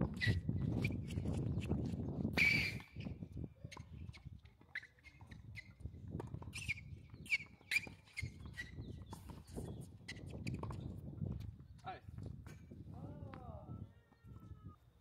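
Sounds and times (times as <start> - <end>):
wind rumble on microphone: 0.0 - 4.6, 5.2 - 14.8.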